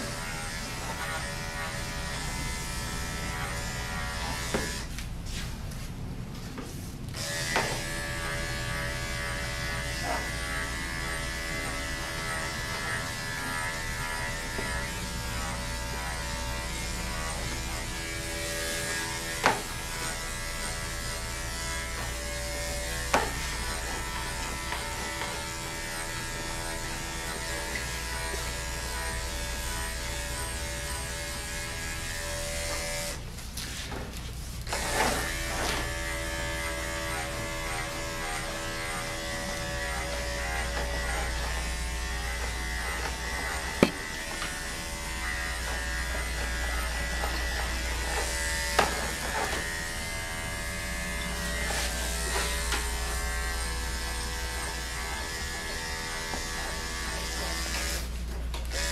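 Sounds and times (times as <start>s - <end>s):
electric clipper humming: 0.0s - 5.0s, 7.2s - 33.3s, 34.7s - 58.9s.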